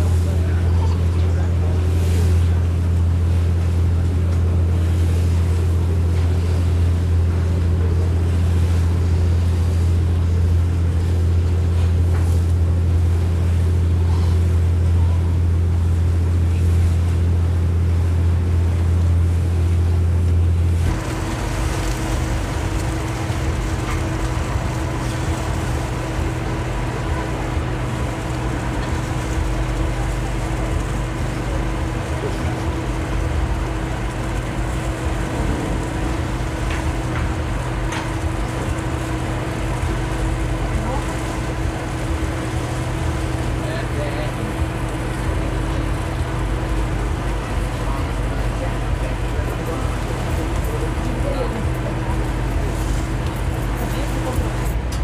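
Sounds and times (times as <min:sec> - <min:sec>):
diesel engine droning: 0:00.0 - 0:55.0
wind and water noise: 0:00.0 - 0:55.0.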